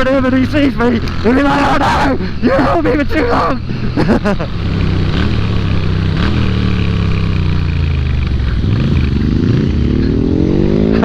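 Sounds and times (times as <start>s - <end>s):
motorcycle engine under way: 0.0s - 1.8s, 3.0s - 11.0s.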